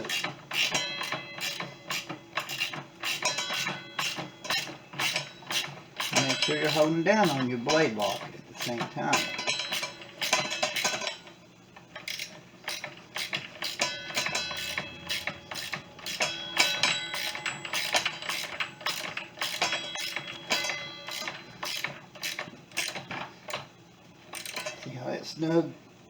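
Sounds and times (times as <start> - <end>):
metal wrench clinking on bolt: 0.0 - 11.3, 12.0 - 23.6, 24.3 - 24.9.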